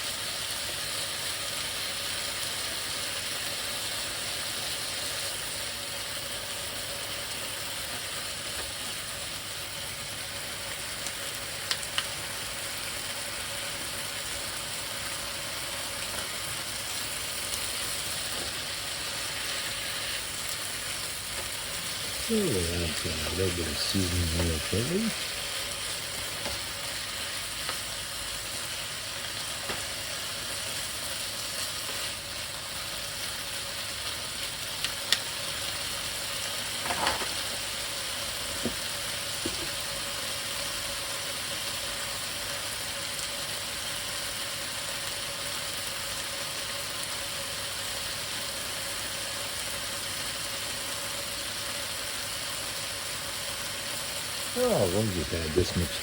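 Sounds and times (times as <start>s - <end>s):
chicken and onions sizzling in pan: 0.0s - 56.0s.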